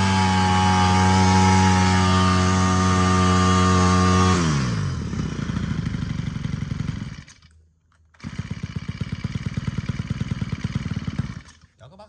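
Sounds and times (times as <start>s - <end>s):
brush cutter engine idling: 0.0s - 12.0s.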